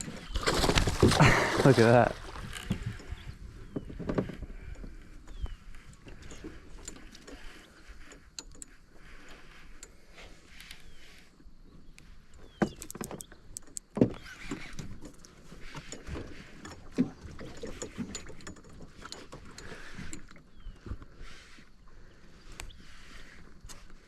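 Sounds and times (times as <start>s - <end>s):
water splashing around boat: 0.0s - 10.1s, 12.8s - 22.1s.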